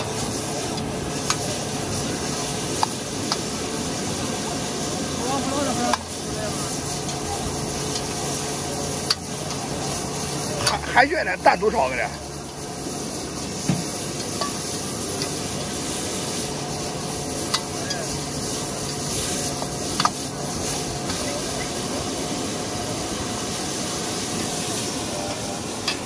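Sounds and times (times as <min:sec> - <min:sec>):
food sizzling in a wok: 0:00.0 - 0:26.0.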